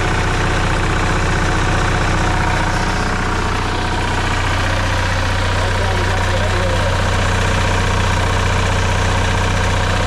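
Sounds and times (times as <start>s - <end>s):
engine knock: 0.0s - 10.0s
generator engine running: 0.0s - 10.0s.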